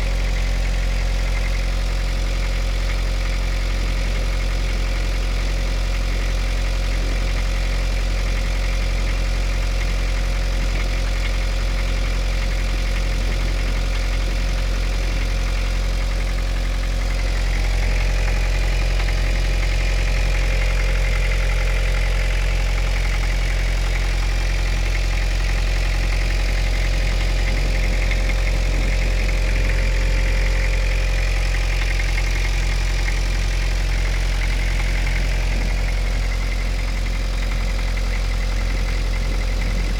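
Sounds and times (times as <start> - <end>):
diesel engine idling: 0.0 - 39.9
engine knocking: 0.0 - 39.9.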